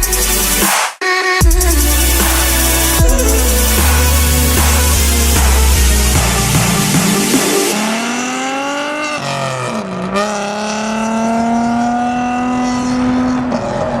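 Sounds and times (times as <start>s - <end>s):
car engine at high revs: 1.8s - 14.0s.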